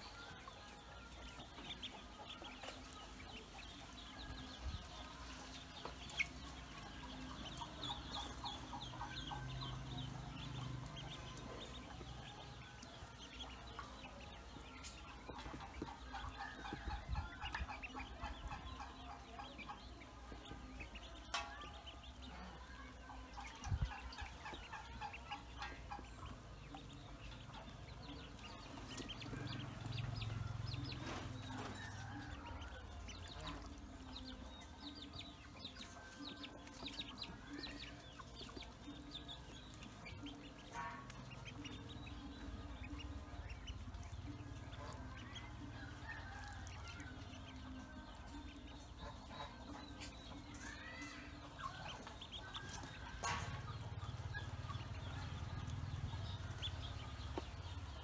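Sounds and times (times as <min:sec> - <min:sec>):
ducklings peeping: 0:00.0 - 0:58.0.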